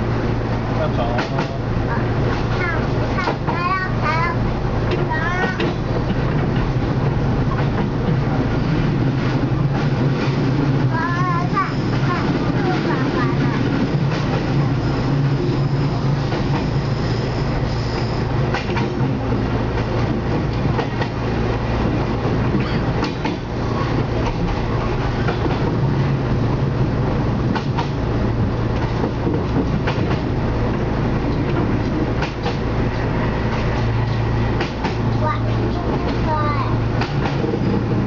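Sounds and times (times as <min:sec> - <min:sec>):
railcar engine hum: 0:00.0 - 0:38.0.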